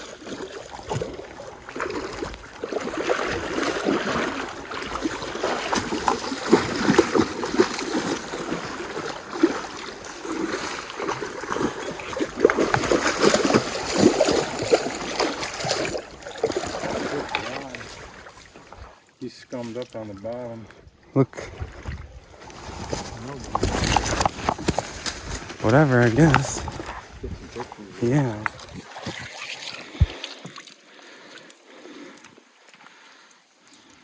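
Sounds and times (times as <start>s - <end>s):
stream water splashing: 0.0s - 34.0s.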